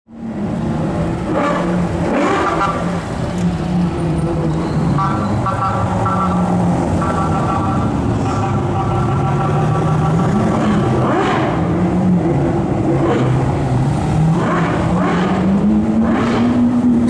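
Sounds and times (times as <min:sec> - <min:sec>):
sports car engines running: 0:00.2 - 0:17.0.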